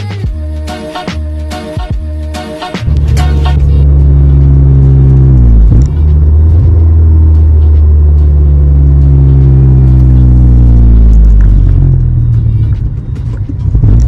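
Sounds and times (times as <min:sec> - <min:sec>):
car engine droning in cabin: 0:02.0 - 0:14.0.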